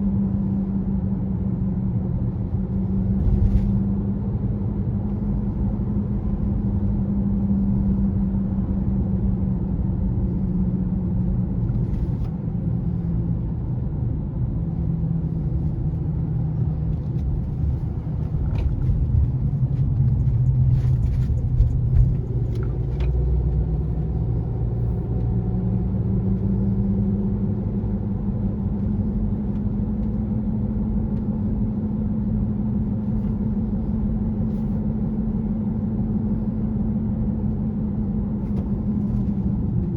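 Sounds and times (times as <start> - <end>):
car driving hum: 0.0 - 39.9
road rumble: 0.0 - 39.9.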